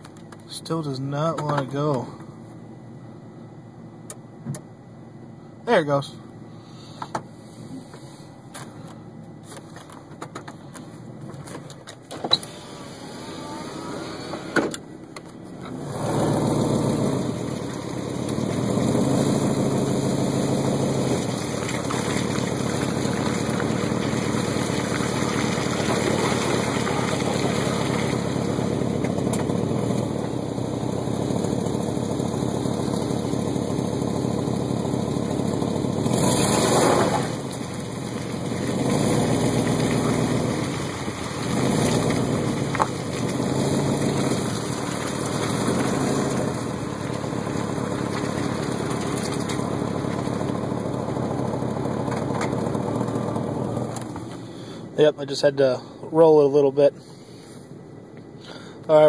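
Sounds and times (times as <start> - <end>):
pickup truck engine running: 7.8 - 55.9.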